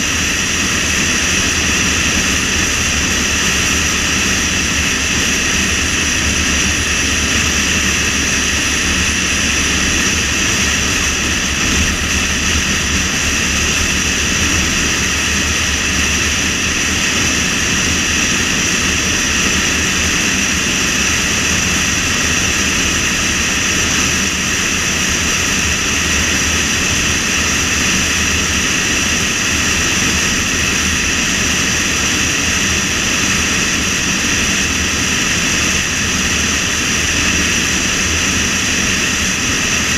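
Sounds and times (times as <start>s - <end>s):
car wind and road noise: 0.0s - 39.9s.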